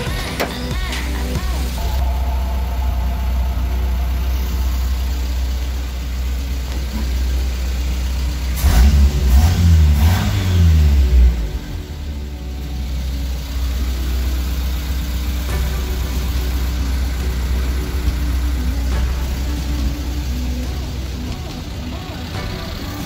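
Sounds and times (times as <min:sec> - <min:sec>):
petrol engine running and revving: 0:00.0 - 0:23.0.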